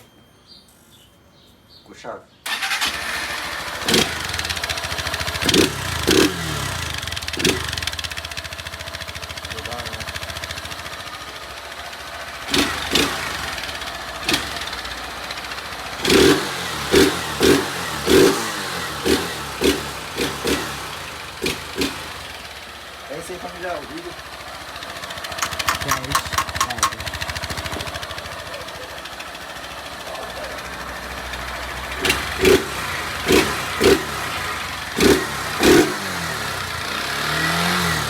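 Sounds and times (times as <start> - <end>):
motorcycle engine idling and revving: 2.4 - 38.0.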